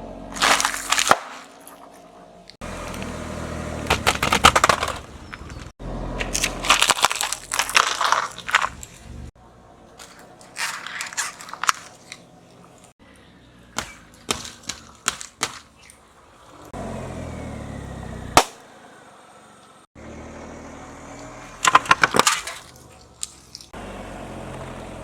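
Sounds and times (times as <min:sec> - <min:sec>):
car running hum: 0:00.0 - 0:25.0
objects crunching under car tyre: 0:00.2 - 0:13.0, 0:13.6 - 0:18.6, 0:21.0 - 0:25.0.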